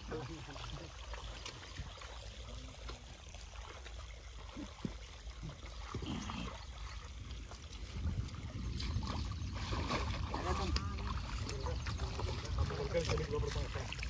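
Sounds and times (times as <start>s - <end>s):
feet wading through muddy water: 0.0s - 14.0s.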